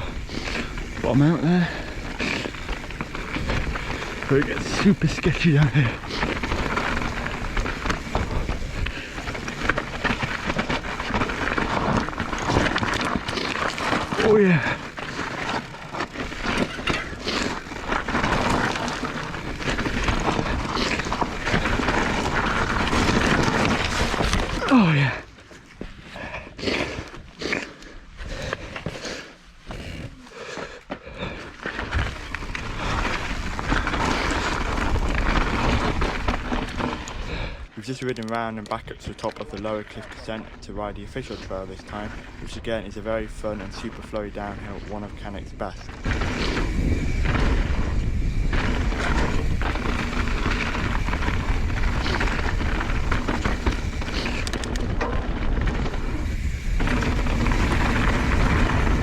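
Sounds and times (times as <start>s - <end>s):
bike clicks and rattles: 0.0s - 59.0s
tyres crunching over stones: 0.0s - 59.0s.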